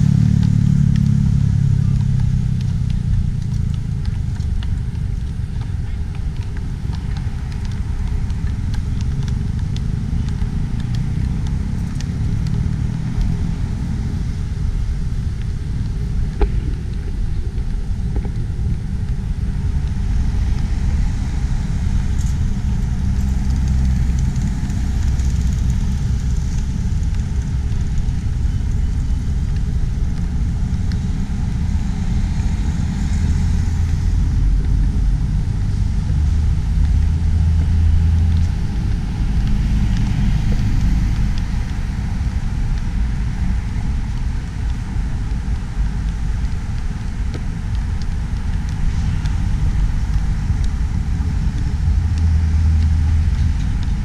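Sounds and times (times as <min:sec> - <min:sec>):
cars passing: 0:00.0 - 0:54.0
road traffic rumble: 0:00.0 - 0:54.0.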